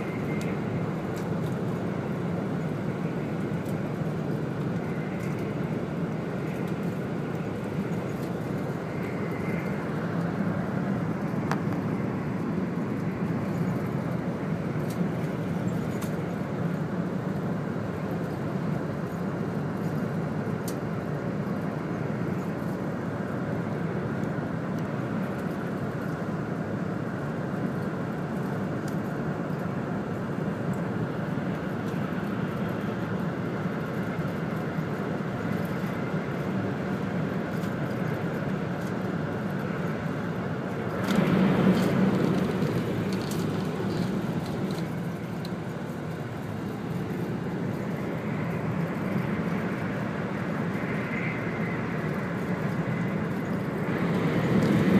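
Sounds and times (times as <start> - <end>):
train interior drone: 0.0 - 54.9.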